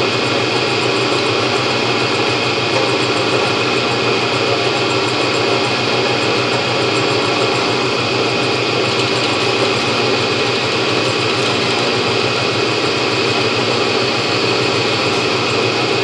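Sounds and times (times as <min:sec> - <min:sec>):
milling machine drilling: 0:00.0 - 0:16.0.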